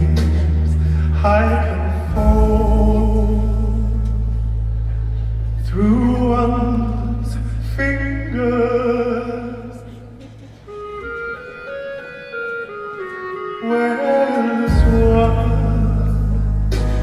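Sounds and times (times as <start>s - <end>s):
sung melody: 0.0s - 17.0s.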